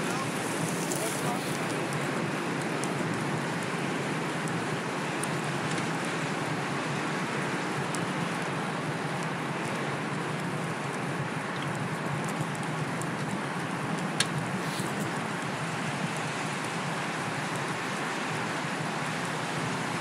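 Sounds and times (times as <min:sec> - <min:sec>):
bike tyres on road: 0:00.0 - 0:20.0.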